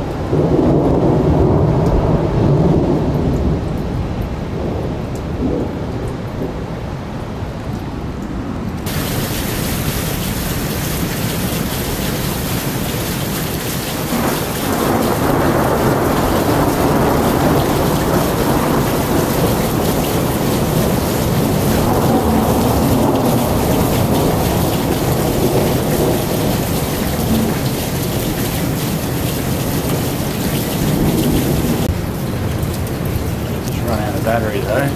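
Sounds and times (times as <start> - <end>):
rain falling: 0.0 - 34.9
thunder rumbling: 0.2 - 6.8, 8.8 - 34.9.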